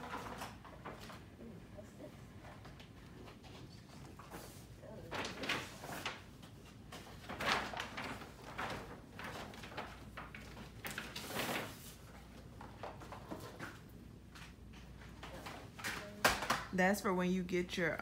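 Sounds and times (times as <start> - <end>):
gift bags rustling: 0.0 - 16.7.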